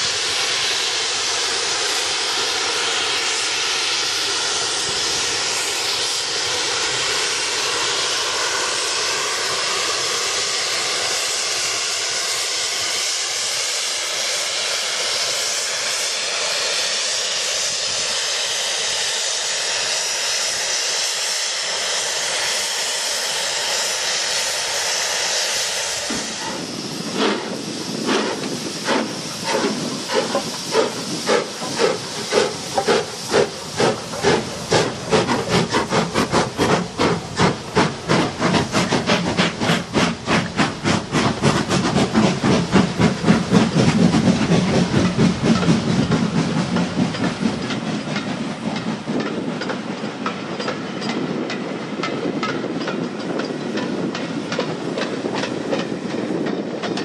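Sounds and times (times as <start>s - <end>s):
steam locomotive exhaust beats: 0.0s - 57.0s
train rumbling past: 0.0s - 57.0s.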